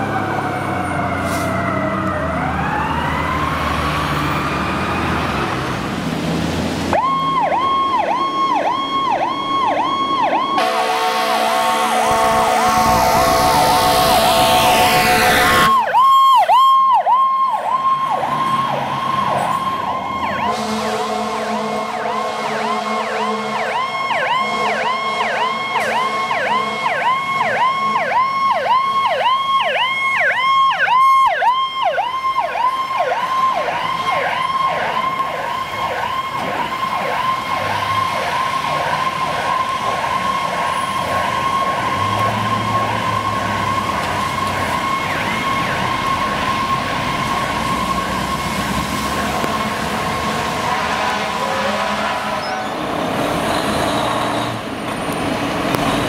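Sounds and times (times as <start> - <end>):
fire truck sirens yelping: 0.0 - 56.0.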